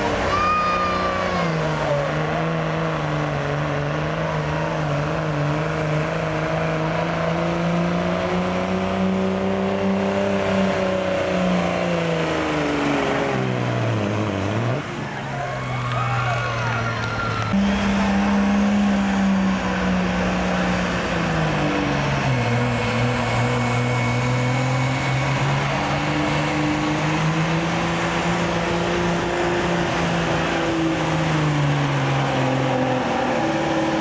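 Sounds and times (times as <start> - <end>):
diesel truck engine revving: 0.0 - 34.0.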